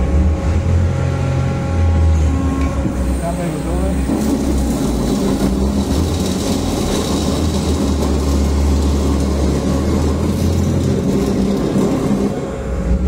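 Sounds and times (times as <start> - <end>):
metal-cutting saw droning: 0.0 - 12.9.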